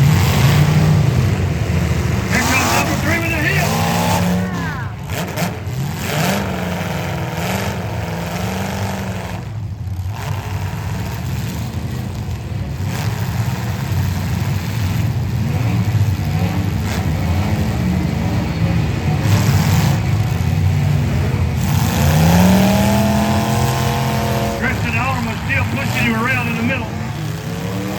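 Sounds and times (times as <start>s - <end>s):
car engines revving: 0.0s - 27.9s.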